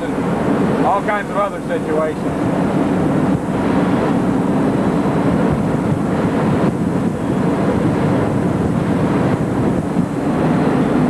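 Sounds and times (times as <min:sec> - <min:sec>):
aircraft cockpit drone: 0:00.0 - 0:11.0
rushing air: 0:00.0 - 0:11.0.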